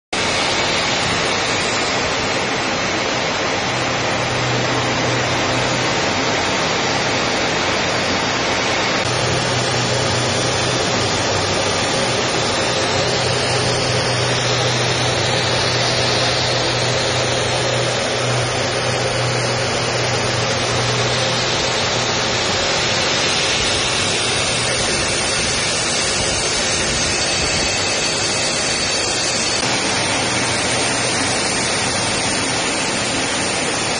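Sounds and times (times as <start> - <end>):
jet engines and airflow rushing: 0.1 - 33.9.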